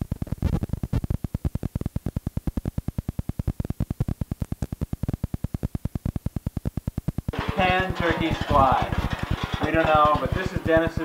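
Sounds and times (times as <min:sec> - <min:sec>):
rhythmic buzzing pulses of tape noise: 0:00.0 - 0:11.0.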